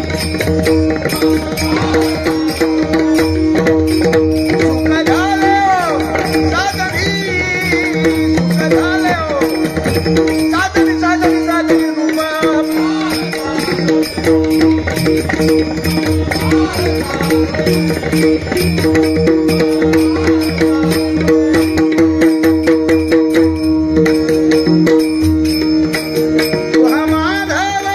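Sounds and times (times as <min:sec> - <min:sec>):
small hand cymbals clashing: 0:00.0 - 0:27.9
tabla hand drum: 0:00.0 - 0:27.9.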